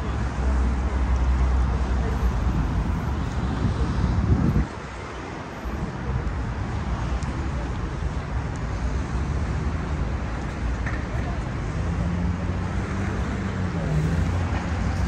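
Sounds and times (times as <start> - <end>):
passing cars rumbling: 0.0 - 15.0.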